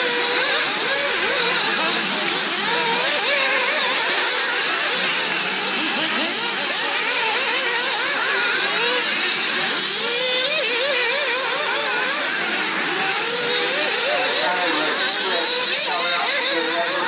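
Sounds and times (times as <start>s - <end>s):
rc car engines whining: 0.0s - 17.0s.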